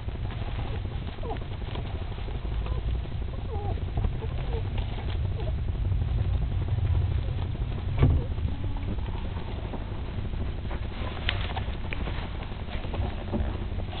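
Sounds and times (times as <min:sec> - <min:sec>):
microphone brushing against fur: 0:00.0 - 0:14.0.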